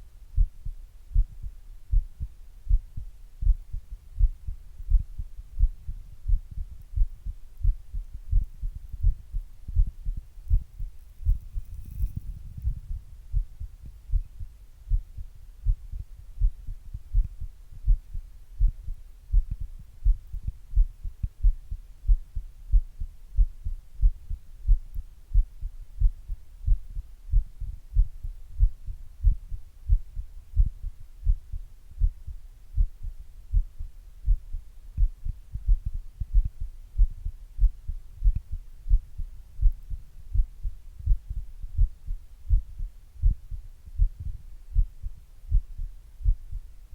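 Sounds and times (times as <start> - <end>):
heartbeat thumps: 0.0 - 46.7.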